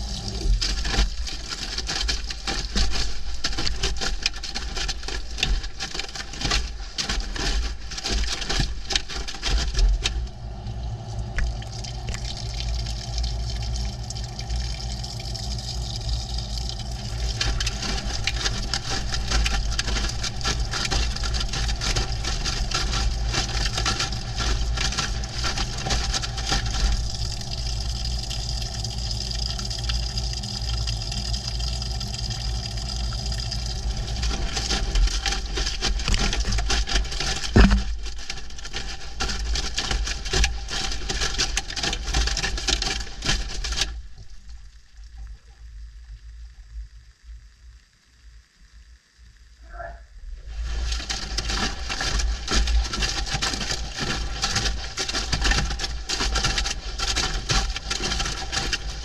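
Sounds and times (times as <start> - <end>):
clothes and water churning: 0.0 - 45.4, 50.4 - 59.0
washing machine low hum: 0.0 - 46.7, 49.6 - 59.0.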